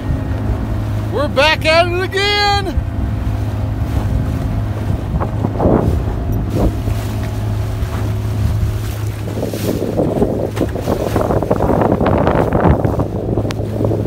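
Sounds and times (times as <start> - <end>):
outboard motor running: 0.0 - 14.0
water splashing against hull: 0.0 - 14.0
wind buffeting microphone: 0.0 - 14.0.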